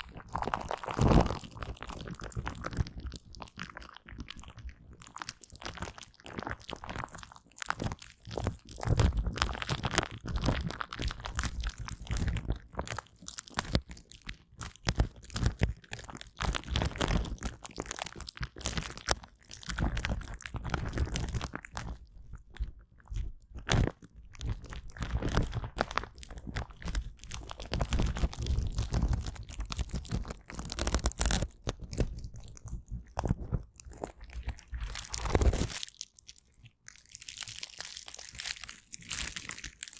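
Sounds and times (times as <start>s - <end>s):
sticky gel crackling and rubbing: 0.0s - 39.9s.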